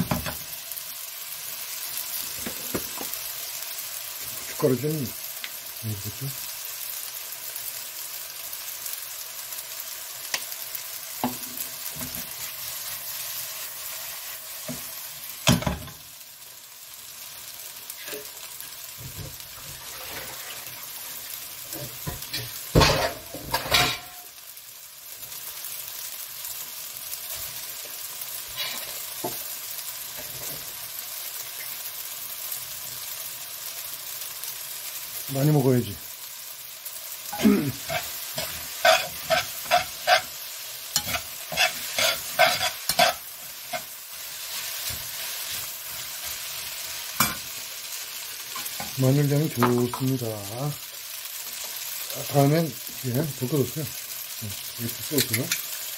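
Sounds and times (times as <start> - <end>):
food sizzling in frying pan: 0.0 - 55.9.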